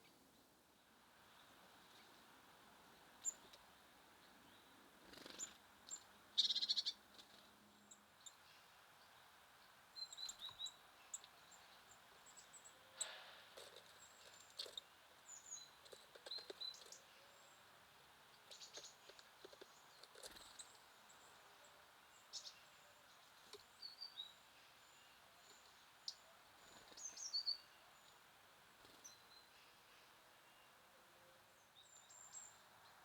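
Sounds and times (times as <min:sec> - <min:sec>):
small birds chirping: 0:03.1 - 0:30.8, 0:31.4 - 0:33.0.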